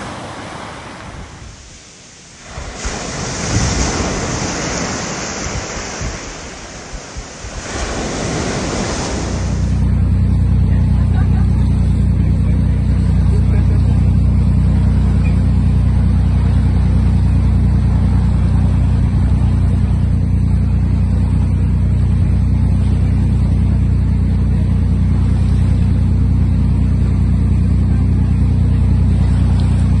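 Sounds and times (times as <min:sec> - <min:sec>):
boat engine droning: 0:00.0 - 0:30.0
water noise: 0:00.0 - 0:30.0.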